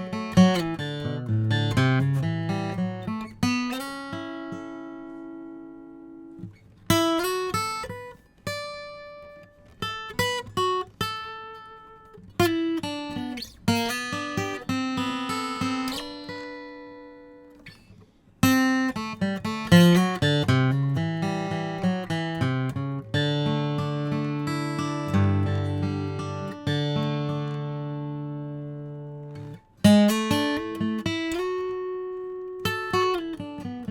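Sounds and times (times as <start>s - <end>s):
acoustic guitar flatpicked: 0.0s - 33.9s.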